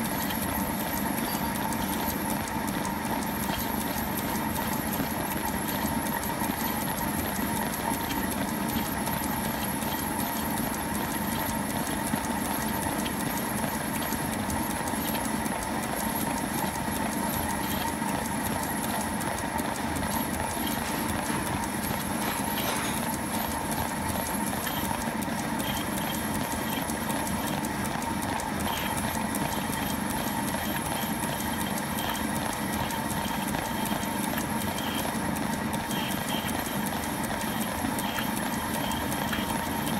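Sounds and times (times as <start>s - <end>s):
fast ticking from lathe drive: 0.0s - 39.9s.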